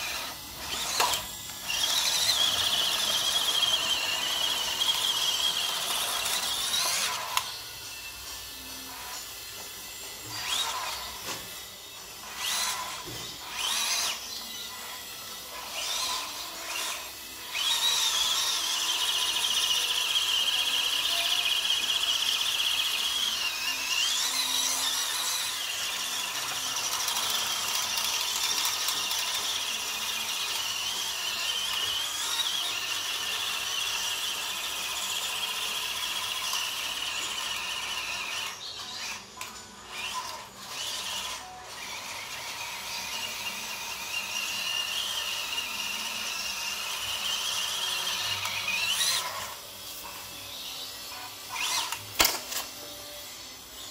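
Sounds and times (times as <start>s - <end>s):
small electric motor whining: 0.0s - 53.9s.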